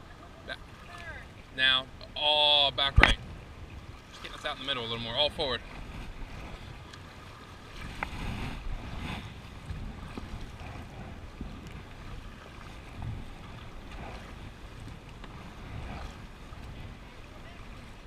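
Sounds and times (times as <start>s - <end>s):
river water rushing and splashing: 0.0s - 18.0s
wind rumble on microphone: 2.0s - 18.0s.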